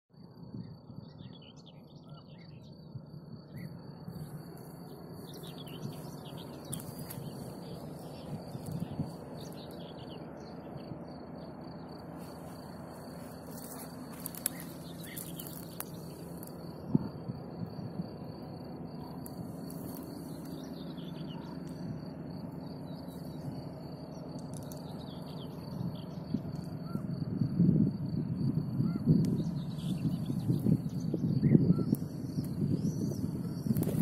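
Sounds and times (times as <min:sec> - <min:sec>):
low steady rumble: 0:00.2 - 0:34.0
small birds chirping: 0:00.5 - 0:34.0.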